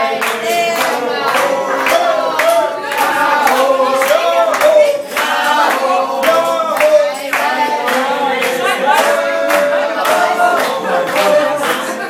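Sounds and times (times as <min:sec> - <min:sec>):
person singing: 0:00.0 - 0:12.0
rhythmic hand-clapping: 0:00.0 - 0:12.0.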